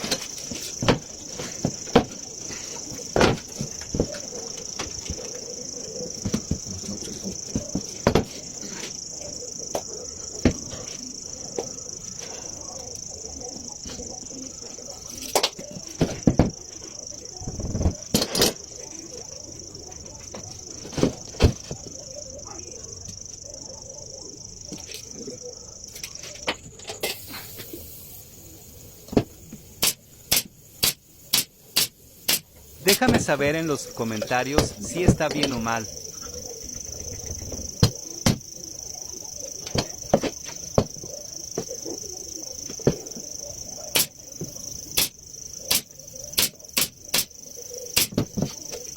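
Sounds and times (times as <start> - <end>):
steady high-pitched chirring: 0.0 - 48.9
steady high-pitched hiss: 0.0 - 48.9.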